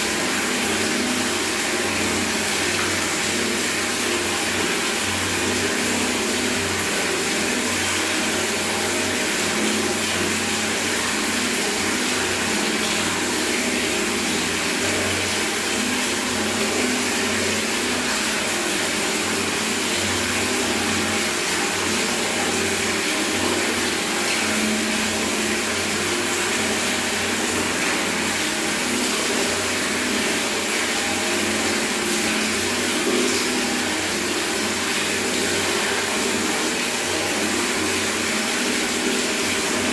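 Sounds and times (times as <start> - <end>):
tap water splashing into bucket: 0.0 - 39.9.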